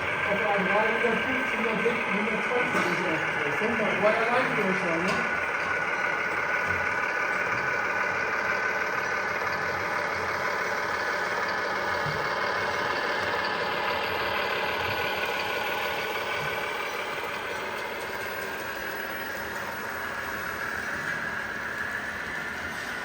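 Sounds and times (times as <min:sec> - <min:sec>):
model truck motor whine: 0:00.0 - 0:23.0.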